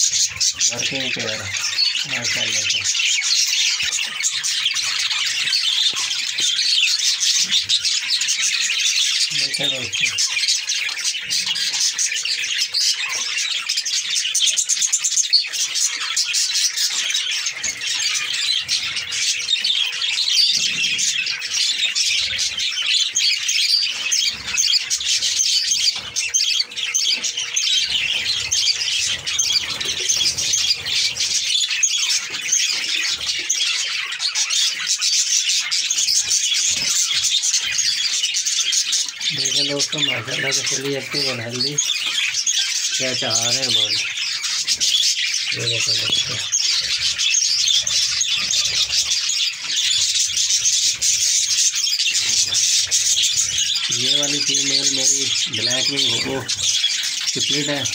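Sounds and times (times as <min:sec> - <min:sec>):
budgerigars chattering and chirping: 0:00.0 - 0:57.9.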